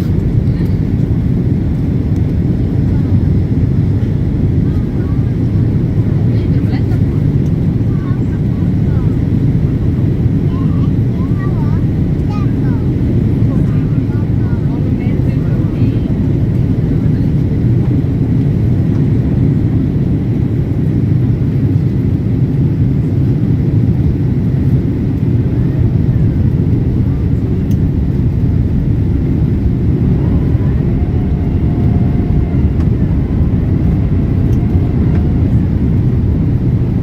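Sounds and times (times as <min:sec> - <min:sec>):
airliner cabin roar: 0:00.0 - 0:37.0.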